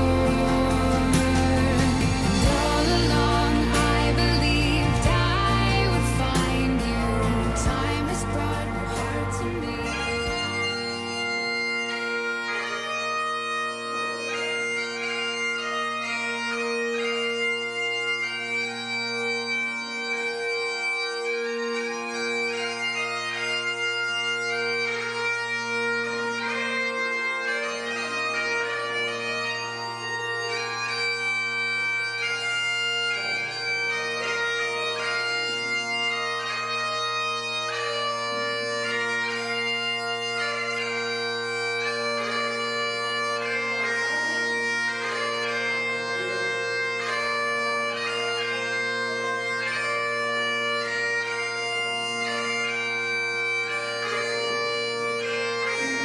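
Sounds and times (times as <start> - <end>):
bagpipes playing a tune: 0.0 - 56.0.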